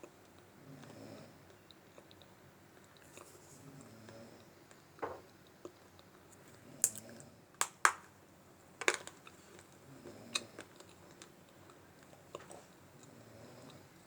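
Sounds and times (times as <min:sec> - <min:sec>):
dry clay being chewed: 0:00.0 - 0:07.8, 0:08.8 - 0:14.0.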